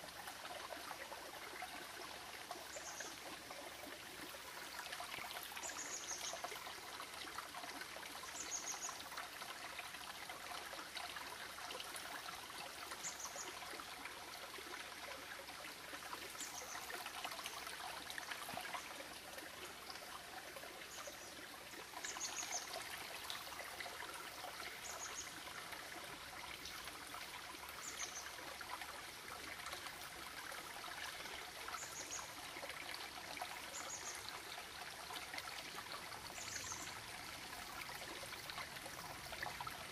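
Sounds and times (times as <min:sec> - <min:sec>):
water running over stones: 0:00.0 - 0:39.9.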